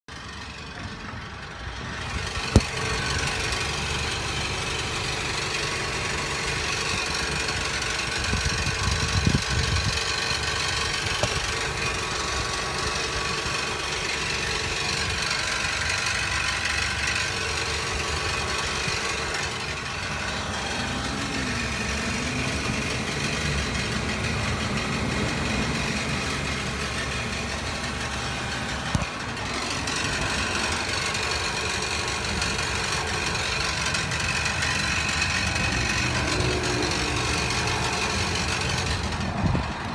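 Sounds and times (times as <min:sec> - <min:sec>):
van engine running: 0:00.1 - 0:39.9
rattling noise: 0:01.8 - 0:39.9.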